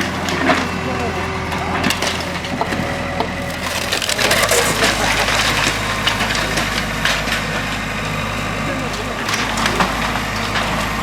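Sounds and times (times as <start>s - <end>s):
machine engine humming: 0.0s - 11.0s
wooden timbers cracking and splintering: 0.0s - 11.0s.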